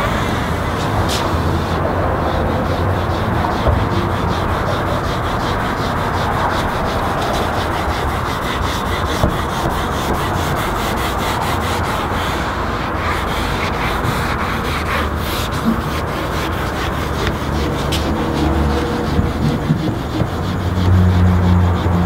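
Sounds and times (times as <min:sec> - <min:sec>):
squeegee rubbing on wet vinyl: 0:00.0 - 0:22.0.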